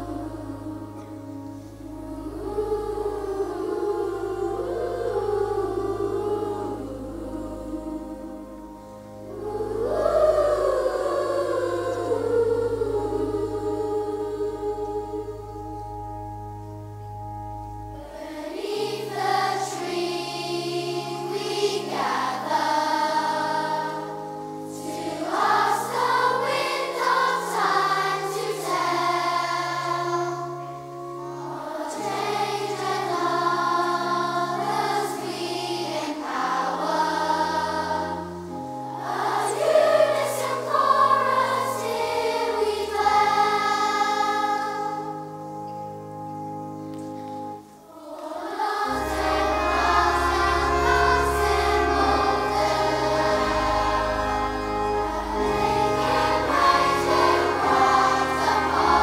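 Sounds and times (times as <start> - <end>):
children's choir singing: 0.0 - 16.3, 17.8 - 45.9, 46.8 - 59.0
pipe organ chords: 0.0 - 59.0.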